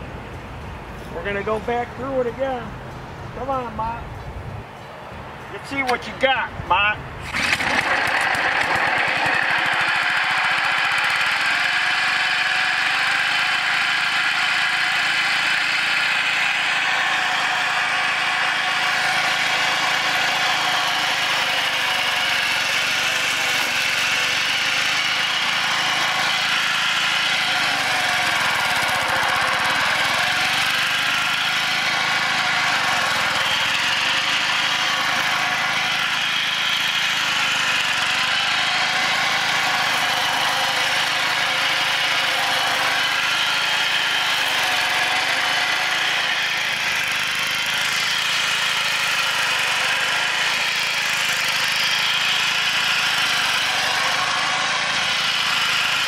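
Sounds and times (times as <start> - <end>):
flail mower engine running: 5.6 - 56.0
mower cutting tall grass: 7.2 - 56.0.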